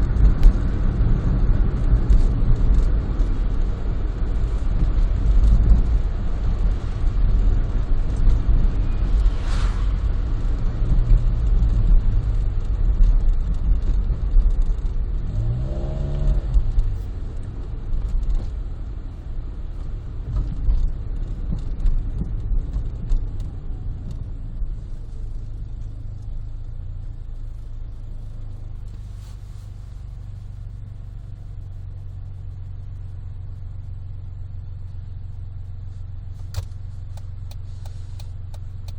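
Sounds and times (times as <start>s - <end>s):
car exhaust and road rumble: 0.0s - 38.9s.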